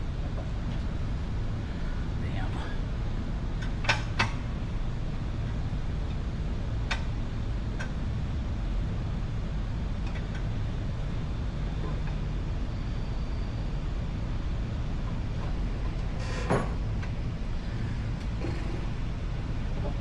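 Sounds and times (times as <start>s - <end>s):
steady low rumble: 0.0s - 16.2s, 16.8s - 20.0s.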